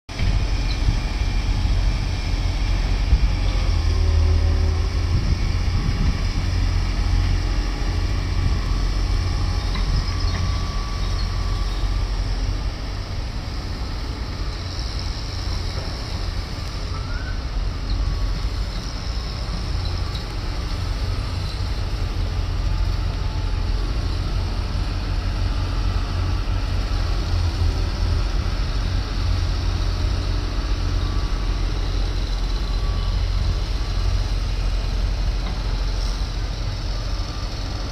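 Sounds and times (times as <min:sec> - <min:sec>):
heavy diesel engine rumbling: 0:00.1 - 0:37.9.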